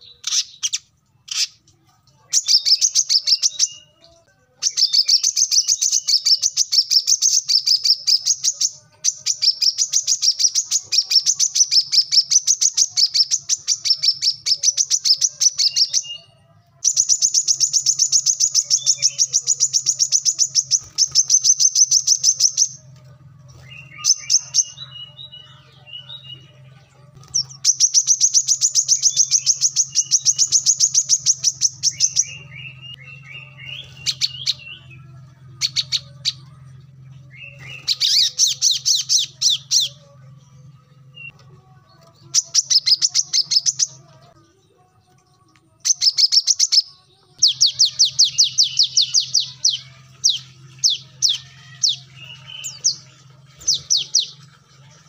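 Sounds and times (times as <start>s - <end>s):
bird singing high chirps: 2.3s - 22.8s, 23.5s - 26.6s, 27.2s - 40.1s, 42.0s - 44.1s, 45.8s - 54.4s.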